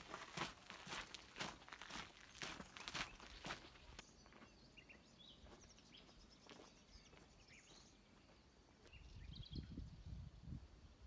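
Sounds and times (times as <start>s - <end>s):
faint small birds chirping: 0.8s - 11.0s.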